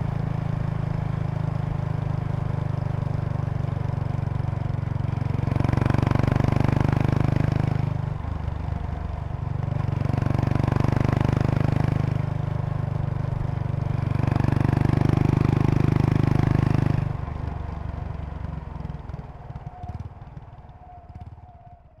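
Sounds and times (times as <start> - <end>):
motorcycle engine under throttle: 0.1 - 22.0.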